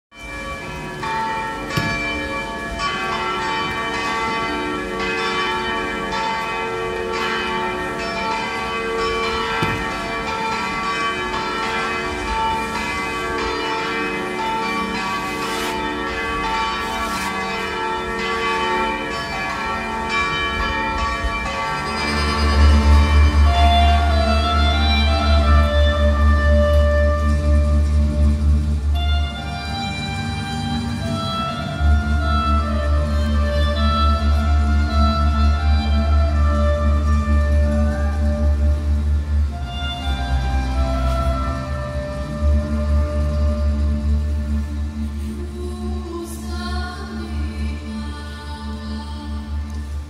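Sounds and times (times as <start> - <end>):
church bells pealing: 0.1 - 49.8.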